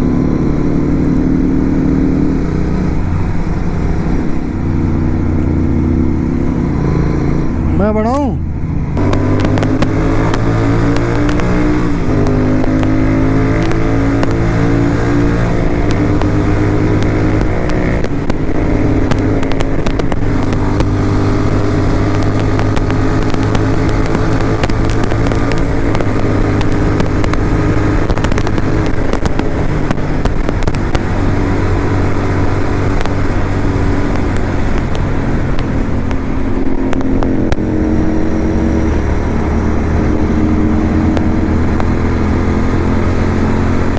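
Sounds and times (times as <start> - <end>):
motorcycle engine running: 0.0 - 43.9
rushing road noise: 0.0 - 43.9.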